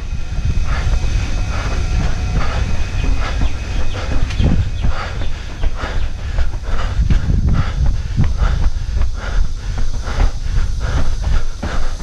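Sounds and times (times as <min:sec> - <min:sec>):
footsteps on concrete: 0:00.0 - 0:12.0
hard breathing: 0:00.0 - 0:12.0
wind rumble on microphone: 0:00.0 - 0:12.0.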